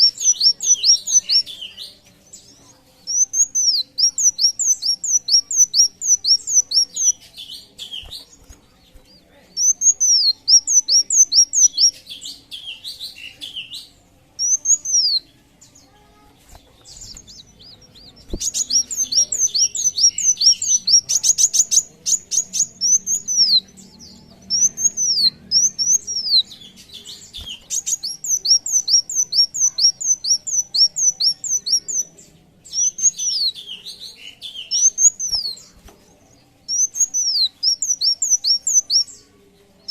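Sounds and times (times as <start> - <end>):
bird singing whistled notes: 0.0 - 8.3, 9.5 - 15.3, 16.8 - 35.7, 36.6 - 39.2.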